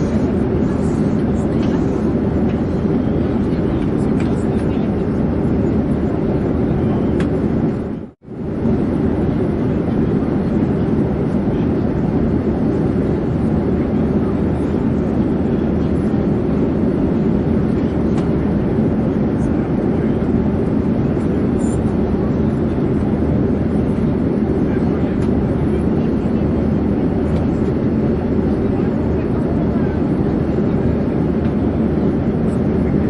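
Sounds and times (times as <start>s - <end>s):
airplane engine drone: 0.0s - 33.0s.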